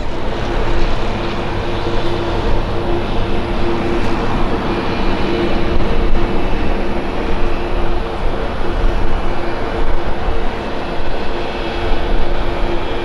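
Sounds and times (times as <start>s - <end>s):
aircraft engines running: 0.0s - 13.0s.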